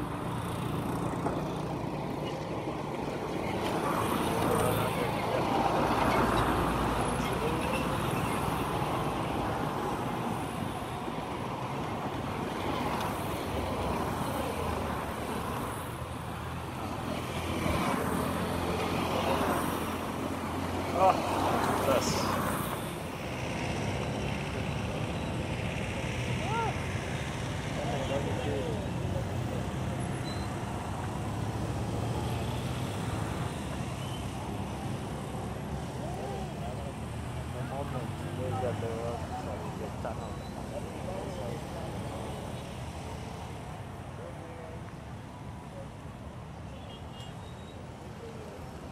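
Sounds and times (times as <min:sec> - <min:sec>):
tyres on dirt road: 0:00.0 - 0:48.9
vehicle engines passing: 0:00.0 - 0:48.9.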